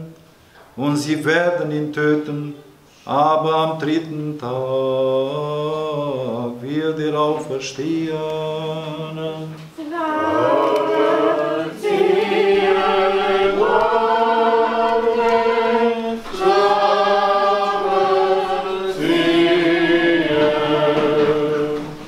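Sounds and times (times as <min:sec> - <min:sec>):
choir singing a cappella: 0:03.1 - 0:22.0.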